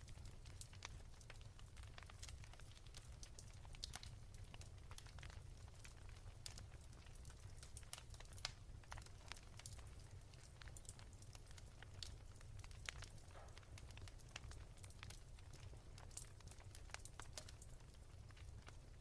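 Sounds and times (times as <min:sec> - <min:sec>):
wood fire crackling softly: 0:00.0 - 0:19.0.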